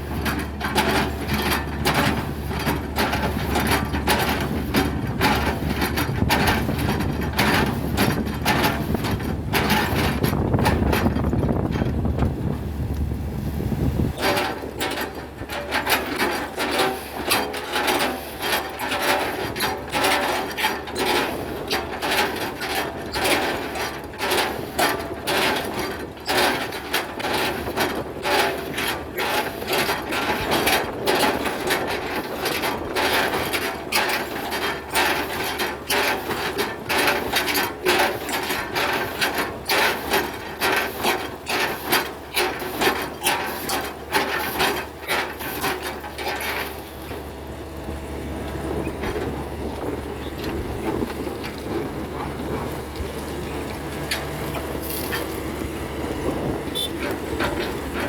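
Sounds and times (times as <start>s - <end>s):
excavator engine hum: 0.0s - 58.0s.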